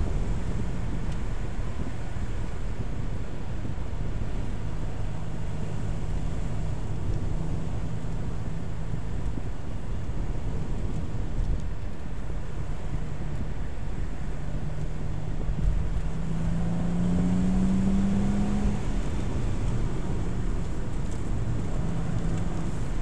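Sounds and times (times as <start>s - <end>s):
car engine hum from inside: 0.0s - 23.0s
tyre and road rumble: 0.0s - 23.0s.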